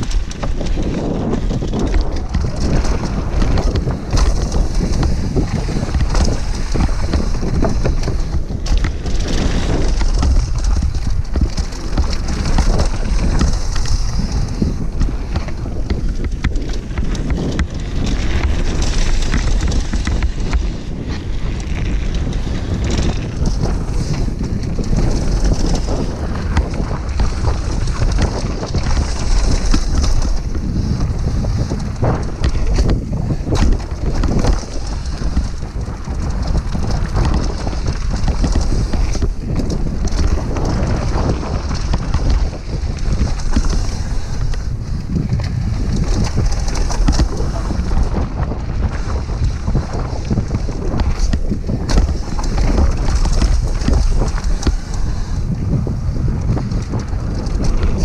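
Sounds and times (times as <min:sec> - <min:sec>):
bike rattling over rough ground: 0:00.0 - 0:58.0
tyres rolling on dirt trail: 0:00.0 - 0:58.0
wind buffeting microphone: 0:00.0 - 0:58.0.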